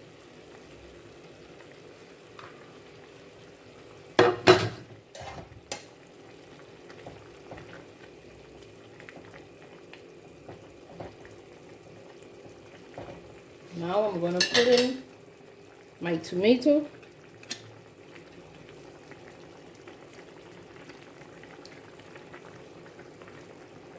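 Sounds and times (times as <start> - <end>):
chicken sizzling in a pot: 0.0 - 23.9.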